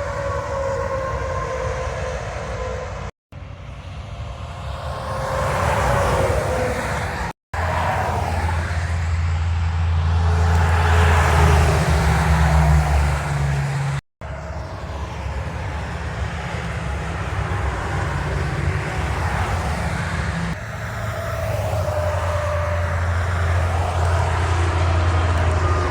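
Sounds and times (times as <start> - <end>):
diesel truck engines droning: 0.0 - 25.9
highway traffic noise: 0.0 - 25.9.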